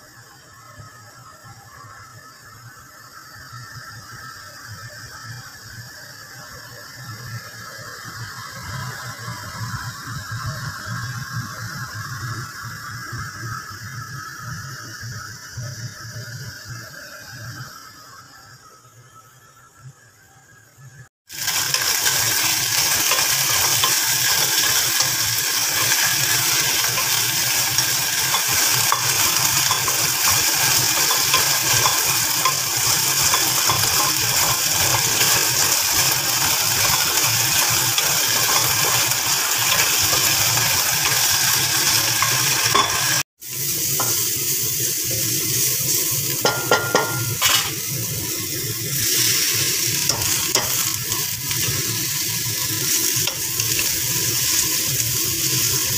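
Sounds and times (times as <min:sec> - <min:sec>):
meat sizzling in a pan: 0:00.0 - 0:18.6, 0:21.2 - 0:55.9
vegetables sizzling in a wok: 0:00.0 - 0:55.9.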